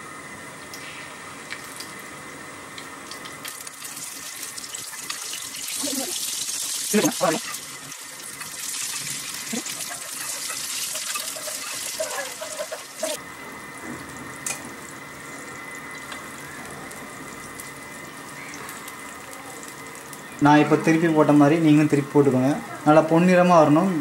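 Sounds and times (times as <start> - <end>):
batter sizzling in hot oil: 0.1 - 23.8.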